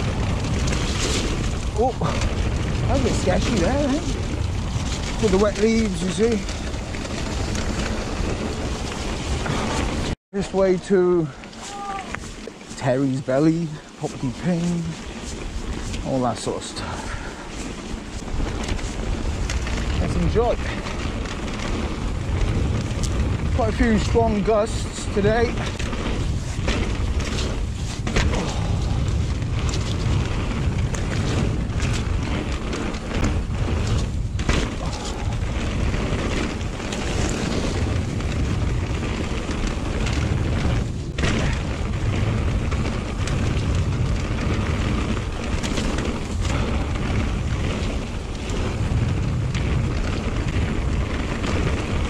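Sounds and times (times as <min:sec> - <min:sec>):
mountain bike rolling on trail: 0:00.0 - 0:52.0
wind buffeting microphone: 0:00.0 - 0:52.0.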